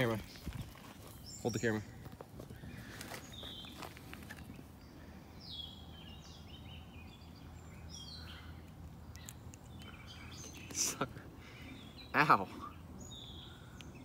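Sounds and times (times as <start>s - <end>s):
faint outdoor background noise: 0.0s - 14.0s
small birds chirping: 0.0s - 14.0s.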